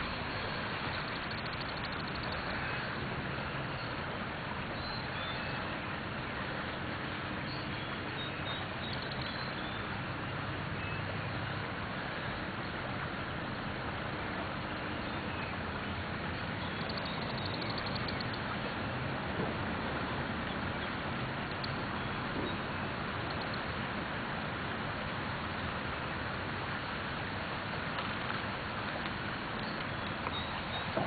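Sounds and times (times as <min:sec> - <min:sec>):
creek rushing: 0:00.0 - 0:31.0.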